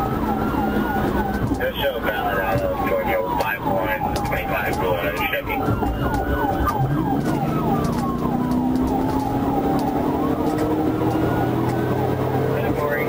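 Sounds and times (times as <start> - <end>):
car engine accelerating: 0.0 - 13.0
police siren yelping: 0.0 - 13.0.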